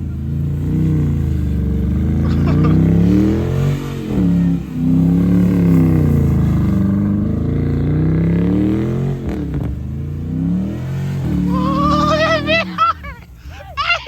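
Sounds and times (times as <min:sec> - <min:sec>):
vehicle engine revving: 0:00.0 - 0:13.3.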